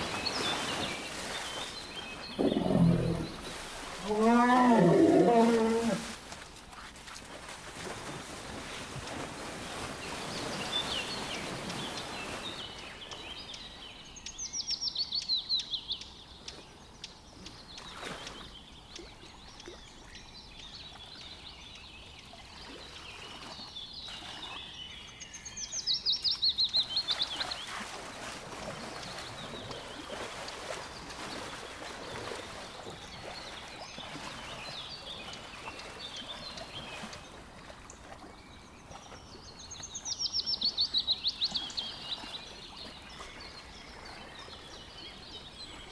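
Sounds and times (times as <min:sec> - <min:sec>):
songbird singing: 0:00.0 - 0:06.1, 0:10.1 - 0:45.9.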